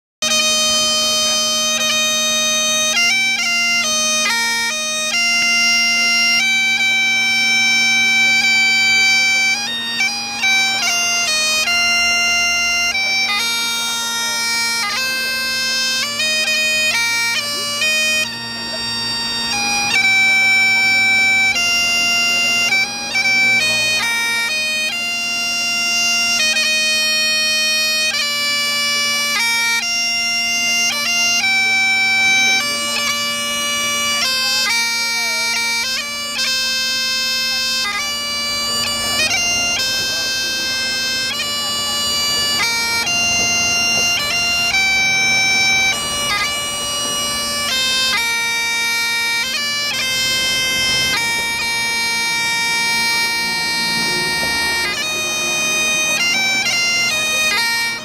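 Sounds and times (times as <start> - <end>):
bagpipe playing: 0.2 - 58.0.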